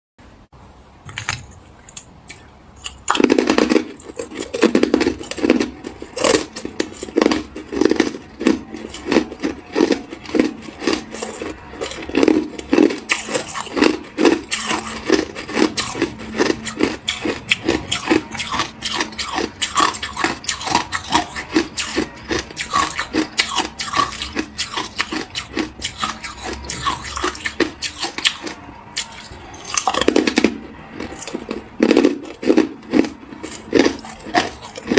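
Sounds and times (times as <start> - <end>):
chewing crunchy ice: 2.3 - 34.9.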